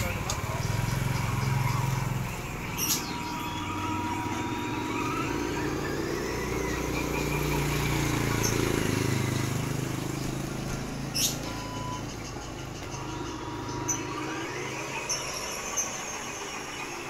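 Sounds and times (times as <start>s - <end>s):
rising motor whine: 0.0s - 17.0s
toy truck engine hum: 0.0s - 17.0s.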